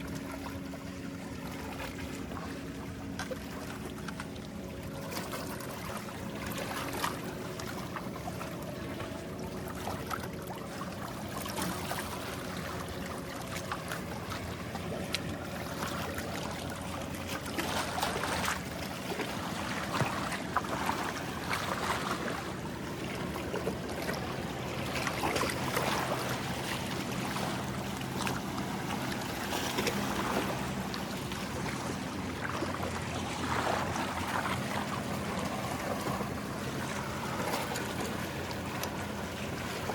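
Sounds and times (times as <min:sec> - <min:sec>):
motorboat engine hum: 0:00.0 - 0:39.9
waves lapping on shore: 0:00.0 - 0:39.9.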